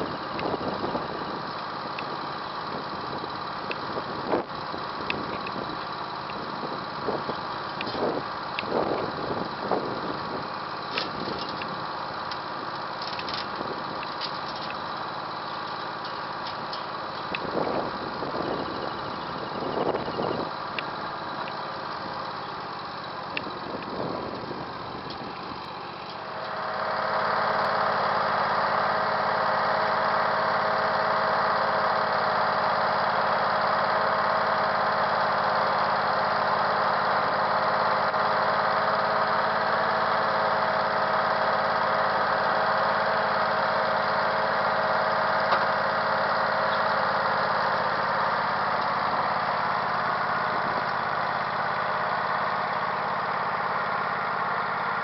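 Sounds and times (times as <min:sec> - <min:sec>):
garden tractor engine idling: 0:00.0 - 0:55.0.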